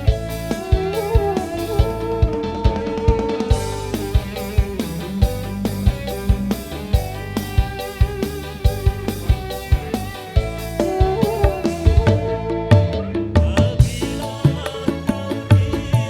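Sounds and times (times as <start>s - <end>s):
band playing guitar and drums: 0.0s - 16.0s.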